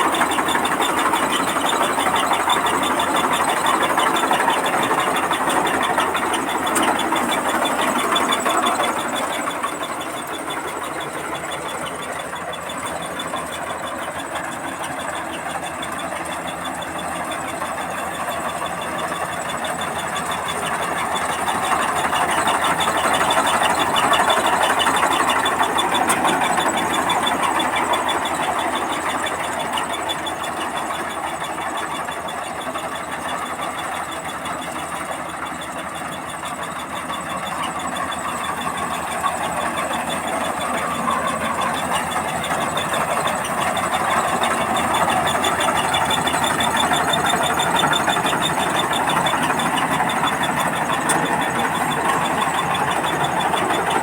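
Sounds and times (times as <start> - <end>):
combine harvester drone: 0.0 - 54.0
fast mechanical rattle: 0.0 - 54.0.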